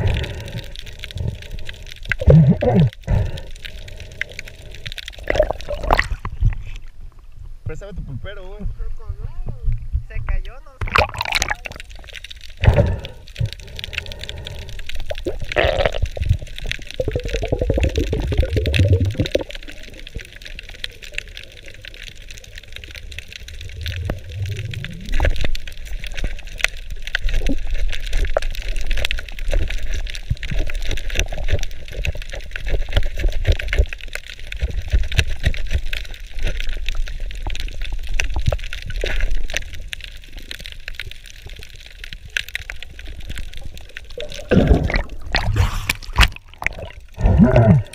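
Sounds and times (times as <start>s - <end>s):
small clicks and crackles: 0.0s - 7.5s, 9.4s - 47.9s.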